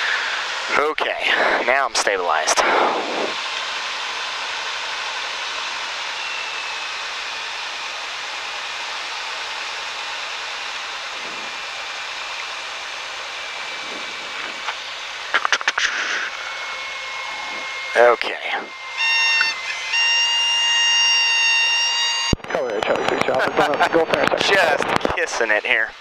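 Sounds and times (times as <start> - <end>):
small plane cabin noise: 0.0 - 26.0.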